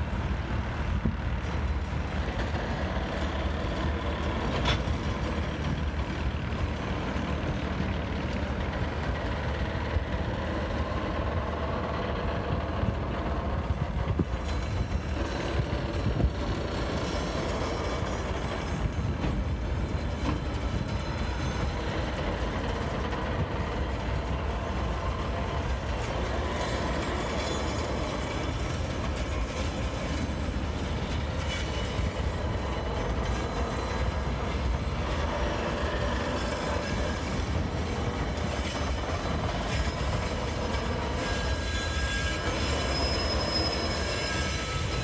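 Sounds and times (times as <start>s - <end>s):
freight train rumbling: 0.0s - 45.0s.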